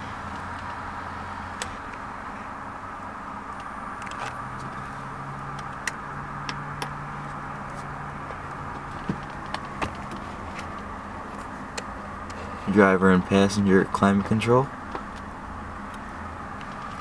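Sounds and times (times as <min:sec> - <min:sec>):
car cabin engine hum: 0:00.0 - 0:17.0.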